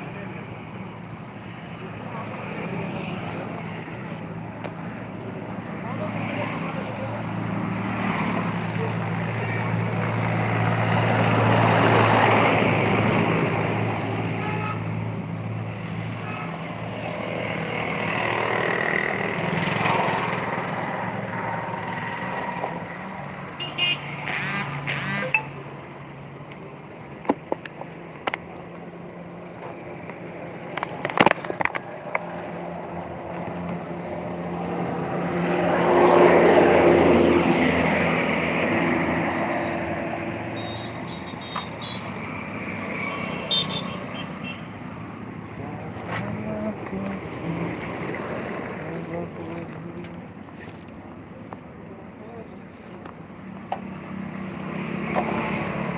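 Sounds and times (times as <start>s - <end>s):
road vehicles passing: 0.0s - 55.9s.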